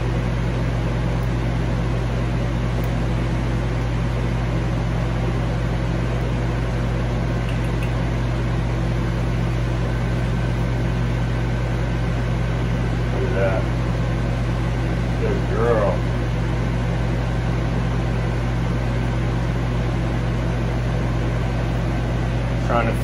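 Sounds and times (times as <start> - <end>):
fan humming with hiss: 0.0 - 23.0.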